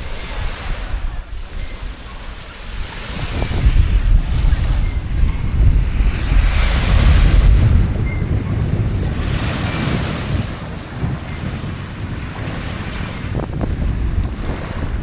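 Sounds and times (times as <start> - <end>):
waves washing on sand: 0.0 - 15.0
wind buffeting microphone: 0.0 - 15.0.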